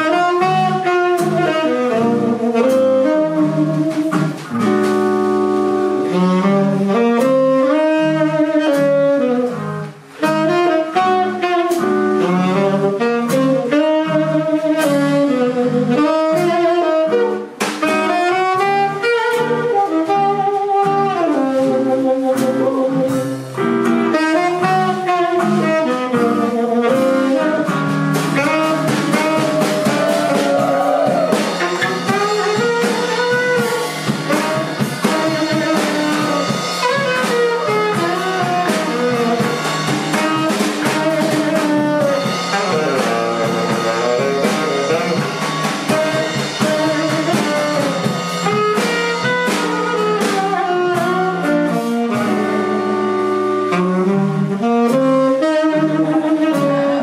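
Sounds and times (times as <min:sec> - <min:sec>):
drum kit: 0:00.0 - 0:57.0
guitar: 0:00.0 - 0:57.0
saxophone melody: 0:00.0 - 0:57.0.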